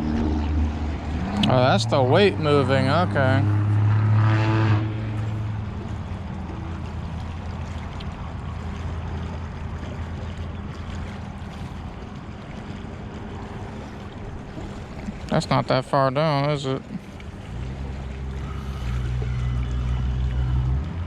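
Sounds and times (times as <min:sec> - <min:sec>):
low engine drone: 0:00.0 - 0:21.0
water noise: 0:00.0 - 0:21.0
wind: 0:00.0 - 0:21.0.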